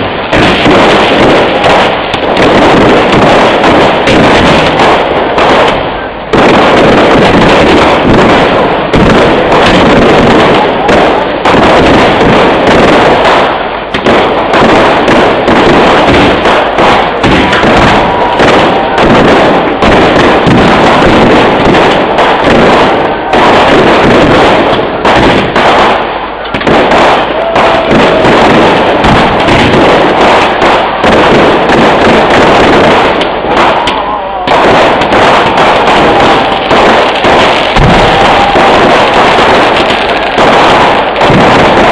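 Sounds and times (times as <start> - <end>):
fireworks exploding and crackling: 0.0 - 41.9.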